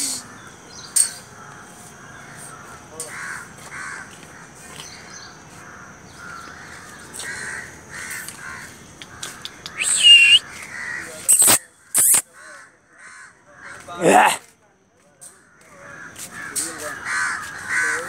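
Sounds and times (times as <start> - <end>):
birds calling: 0.0 - 14.4, 15.2 - 18.0.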